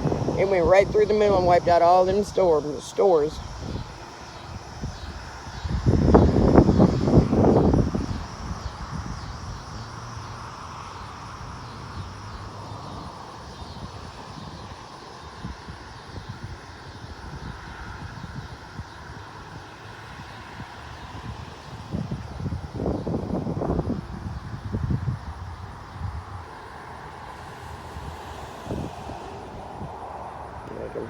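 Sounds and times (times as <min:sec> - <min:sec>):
distant engine hum: 0:00.0 - 0:31.0
insects buzzing: 0:00.0 - 0:31.0
light wind: 0:00.0 - 0:31.0.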